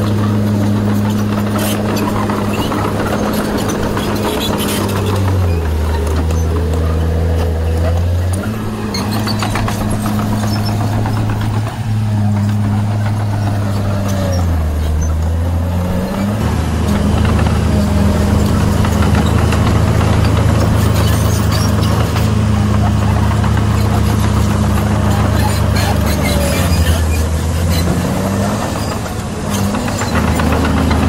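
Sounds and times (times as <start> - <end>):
bulldozer diesel engine under load: 0.0 - 31.0
dump truck diesel engine running: 0.0 - 31.0.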